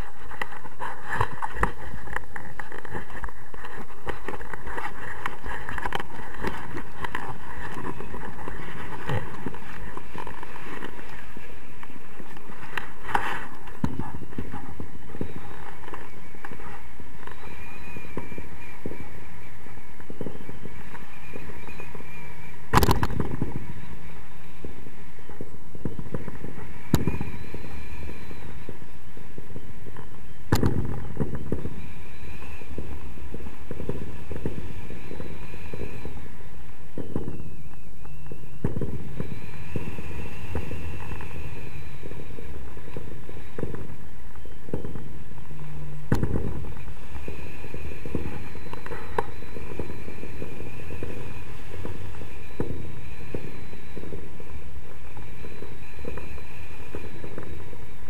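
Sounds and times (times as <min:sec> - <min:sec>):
sharp wind cracks: 0:00.0 - 0:58.0
wind buffeting microphone: 0:00.0 - 0:58.0.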